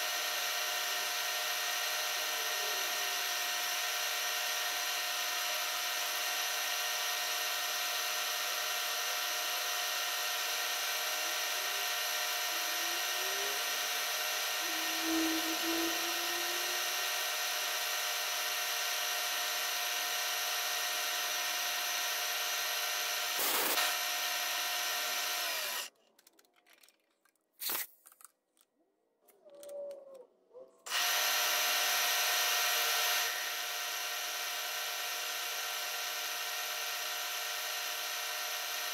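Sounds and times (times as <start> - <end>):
milling machine cutting metal: 0.0 - 25.9, 30.9 - 38.9.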